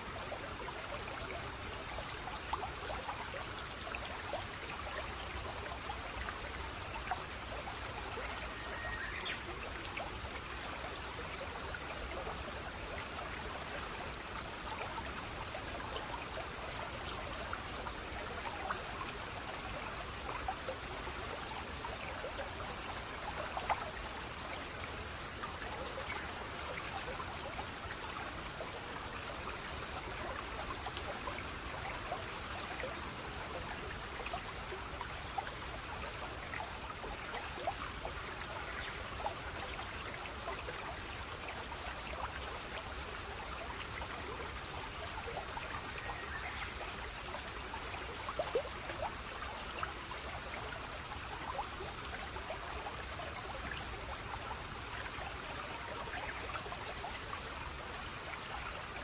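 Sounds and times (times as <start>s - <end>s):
water flowing and trickling: 0.0s - 59.0s
water splashes and drips: 0.0s - 59.0s.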